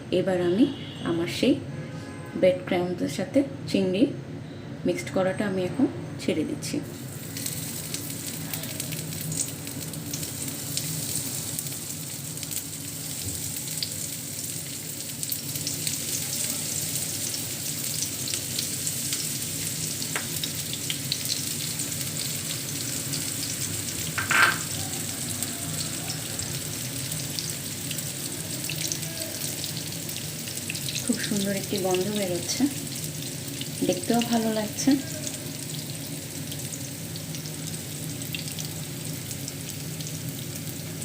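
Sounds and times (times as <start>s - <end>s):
prawns sizzling in frying oil: 6.8s - 41.0s.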